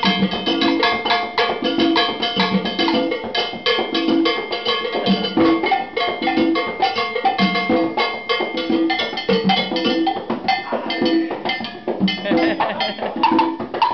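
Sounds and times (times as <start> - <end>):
conga drum strokes: 0.0 - 13.9
live salsa music: 0.0 - 13.9.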